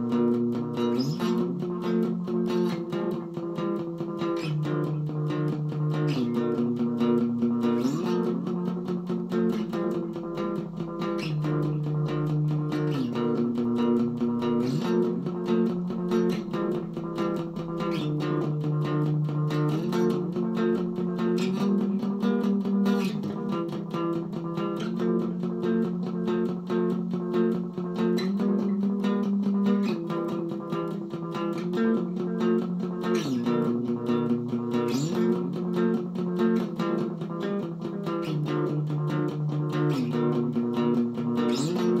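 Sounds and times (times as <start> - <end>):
instrumental music with steady beat: 0.0 - 42.0.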